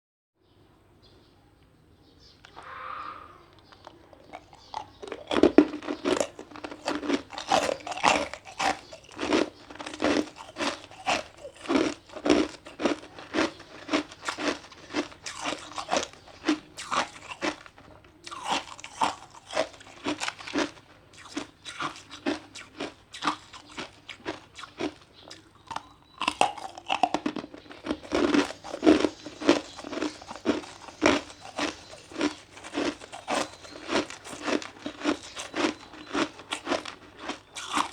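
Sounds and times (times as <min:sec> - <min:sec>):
ice being chewed: 0:03.5 - 0:37.9.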